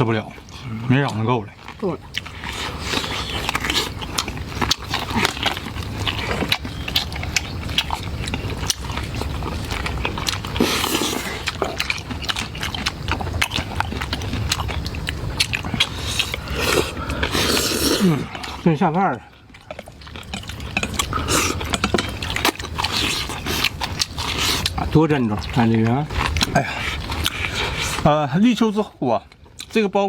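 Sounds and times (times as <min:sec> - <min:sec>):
person chewing crisp food: 0:00.0 - 0:29.8.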